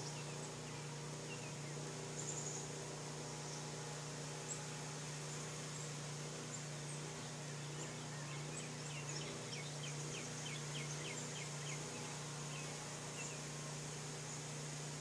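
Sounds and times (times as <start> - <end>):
bird singing down-slurred notes: 0.0 - 15.0
steady low hum: 0.0 - 15.0.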